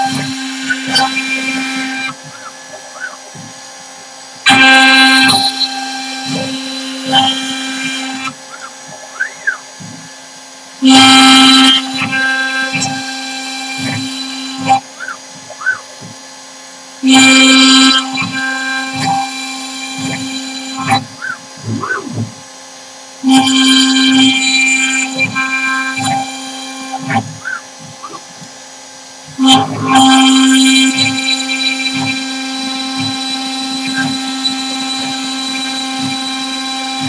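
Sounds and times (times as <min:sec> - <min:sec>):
router spindle cutting wood: 0:00.0 - 0:37.0.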